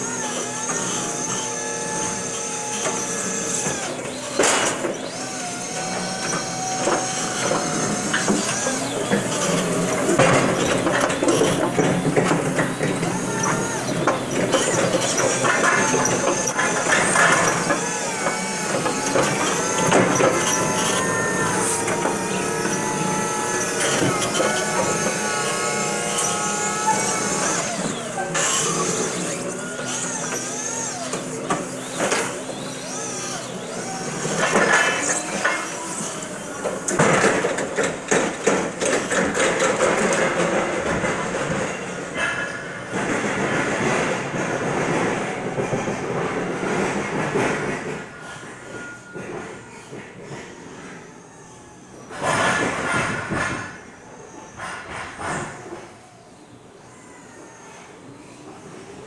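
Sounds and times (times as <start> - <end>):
forklift mast and forks rattling: 0.0 - 48.1
hydraulic pump motor whining: 0.0 - 57.5.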